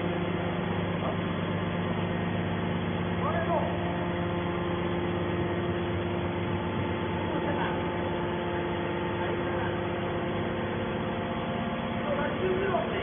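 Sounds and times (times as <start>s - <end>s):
hydraulic baler humming: 0.0s - 13.0s.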